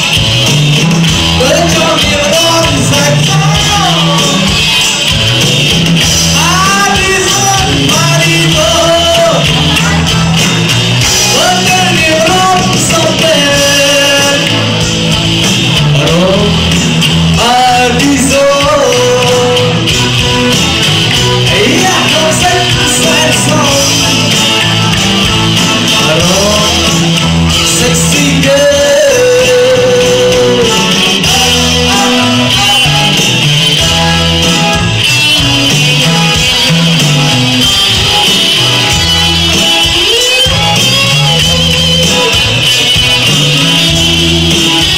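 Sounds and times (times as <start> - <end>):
live band playing: 0.0 - 44.9
person singing: 1.2 - 5.1, 6.2 - 14.8, 15.7 - 35.3, 35.9 - 44.9.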